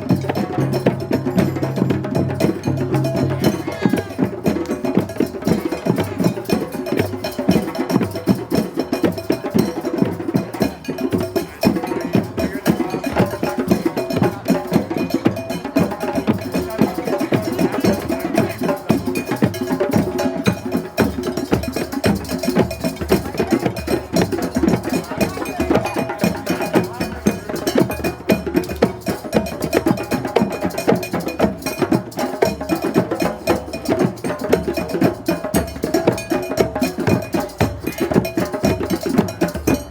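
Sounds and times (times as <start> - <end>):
clacking struck percussion: 0.0 - 39.9
hand drums playing a groove: 0.0 - 39.9.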